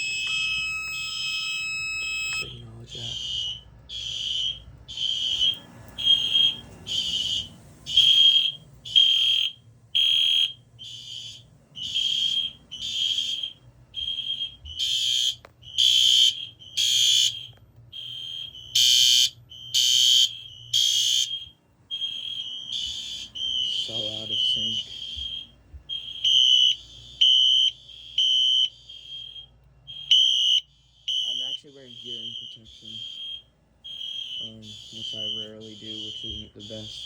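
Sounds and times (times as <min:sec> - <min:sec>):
fire alarm horn pulsing: 0:00.0 - 0:37.0.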